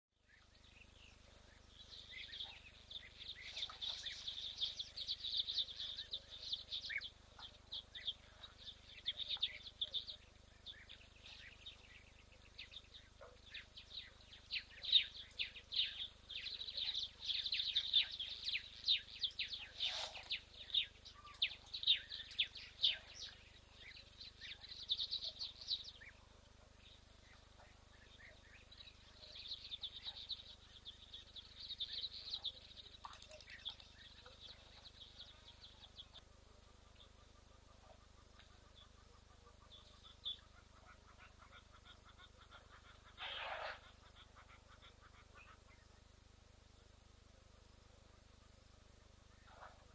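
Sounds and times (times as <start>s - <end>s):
birds chirping and twittering: 0.2s - 49.9s
faint steady hum: 0.2s - 49.9s.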